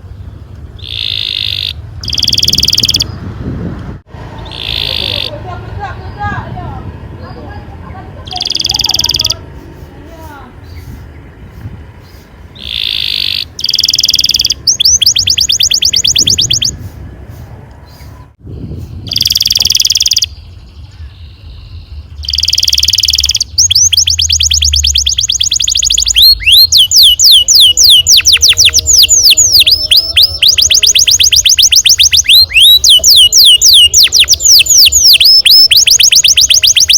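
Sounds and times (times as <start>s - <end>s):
canary singing: 0.0s - 3.3s, 4.2s - 17.0s, 17.8s - 36.9s.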